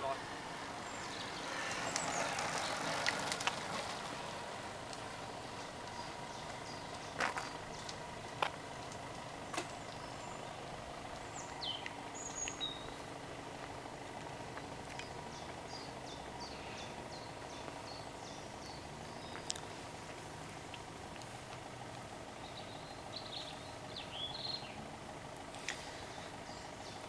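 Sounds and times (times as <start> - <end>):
small birds chirping: 0.0 - 27.0
steady low hum: 3.6 - 27.0.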